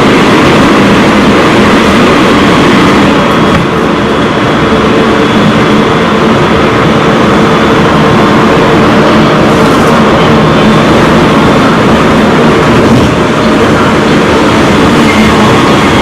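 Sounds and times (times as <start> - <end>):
electric traction motor hum: 0.0 - 16.0
train wheels rolling on rails: 0.0 - 16.0.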